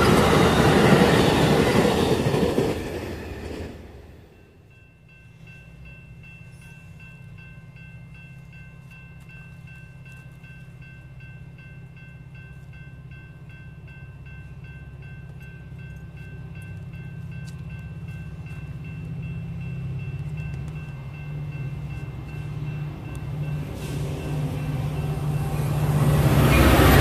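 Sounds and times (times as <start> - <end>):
diesel locomotive rumbling: 0.0 - 27.0
crossing bell dinging: 4.2 - 27.0.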